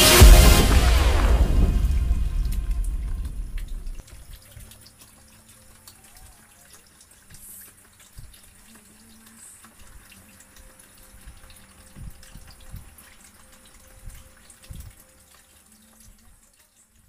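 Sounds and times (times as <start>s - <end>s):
water stream splashing into tub: 0.0s - 17.0s
water wheel drips and splashes: 1.0s - 17.0s.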